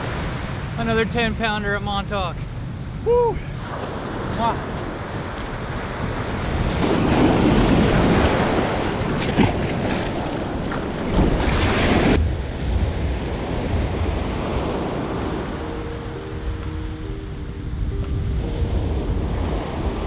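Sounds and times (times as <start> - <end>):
ocean surf washing up beach: 0.0 - 20.0
wind buffeting microphone: 0.0 - 20.0.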